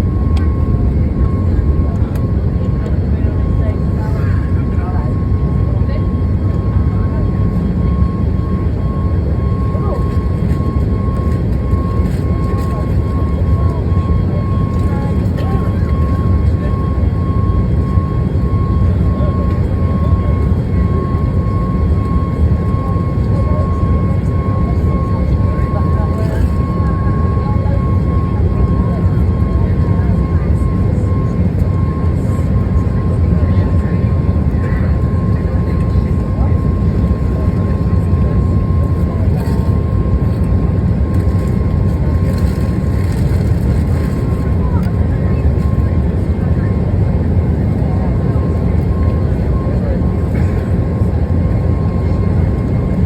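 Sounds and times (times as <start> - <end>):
jet engine rumble in cabin: 0.0 - 53.0.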